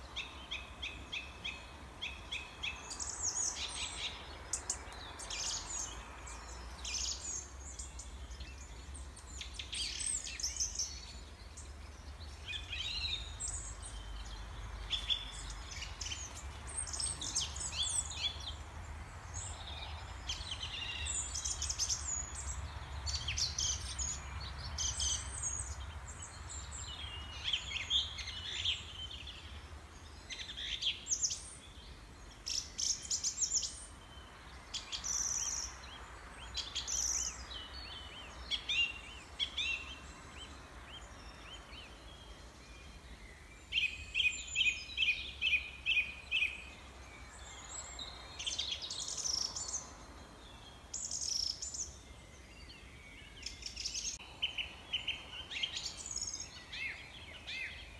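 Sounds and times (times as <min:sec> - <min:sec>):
songbirds chirping and singing: 0:00.0 - 0:57.9.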